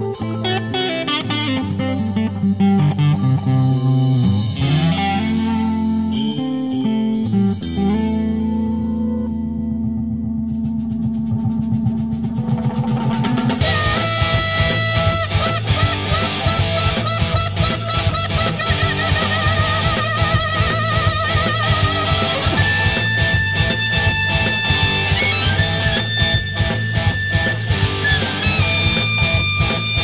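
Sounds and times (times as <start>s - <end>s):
blues rock band playing: 0.0s - 9.5s, 11.7s - 30.0s
electric guitar vibrato notes: 0.0s - 30.0s.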